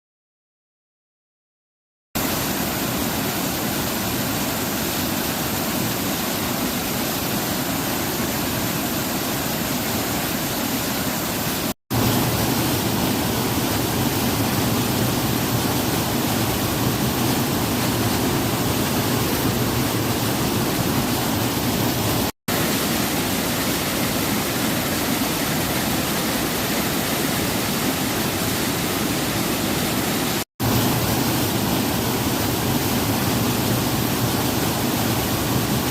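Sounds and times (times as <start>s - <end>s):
waterfall roaring: 2.2s - 35.9s.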